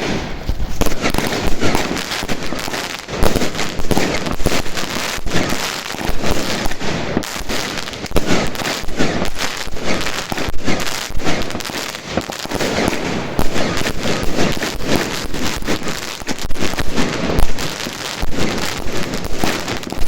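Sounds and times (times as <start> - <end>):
firework cake pops and crackles: 0.0 - 20.0.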